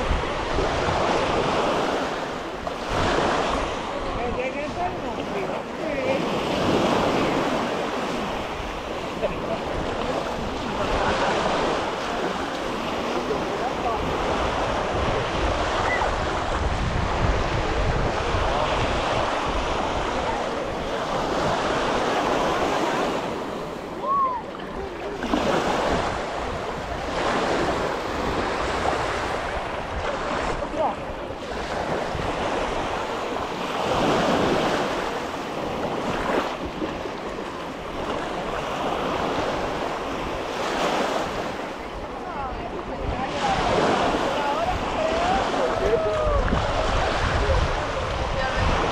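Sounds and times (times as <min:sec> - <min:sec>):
ocean surf washing onto beach: 0:00.0 - 0:48.9
wind rumbling on microphone: 0:00.0 - 0:48.9.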